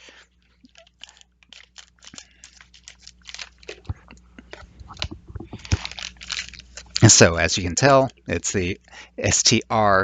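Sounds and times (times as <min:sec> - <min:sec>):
packaging crinkling: 0:00.0 - 0:09.0.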